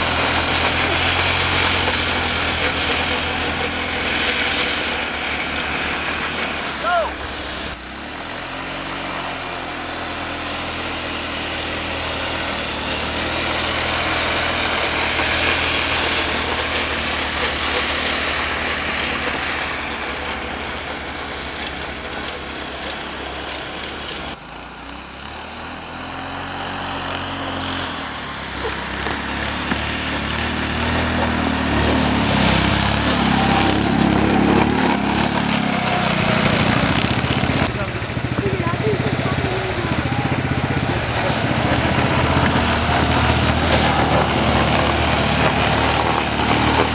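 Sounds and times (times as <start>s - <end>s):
snowmobile engines revving: 0.0s - 46.9s.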